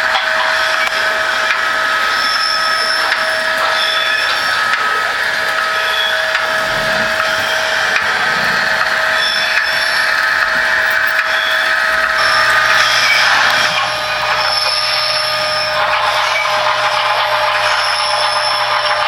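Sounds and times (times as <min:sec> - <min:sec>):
electric motor whine: 0:00.0 - 0:19.0
model train wheels rattling: 0:00.0 - 0:19.0.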